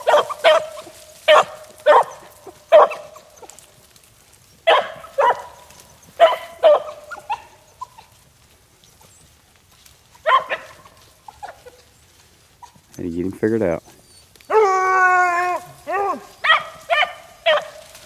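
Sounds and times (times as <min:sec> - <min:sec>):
hounds baying: 0:00.0 - 0:18.0.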